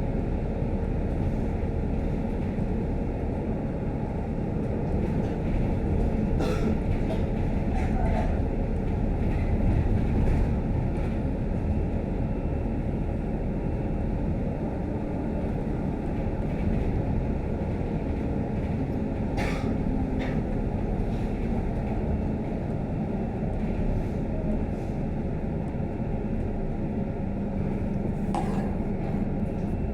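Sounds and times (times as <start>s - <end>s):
bus engine and road rumble: 0.0s - 29.9s.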